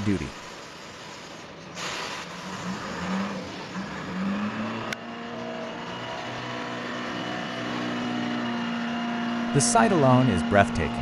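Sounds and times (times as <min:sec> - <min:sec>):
engine running under load: 0:00.0 - 0:11.0.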